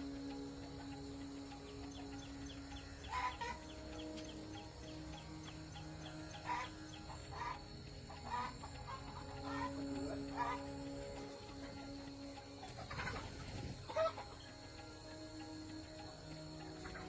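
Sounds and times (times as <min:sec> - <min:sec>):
light fast ticking: 0:00.0 - 0:17.0
soft background music: 0:00.0 - 0:17.0.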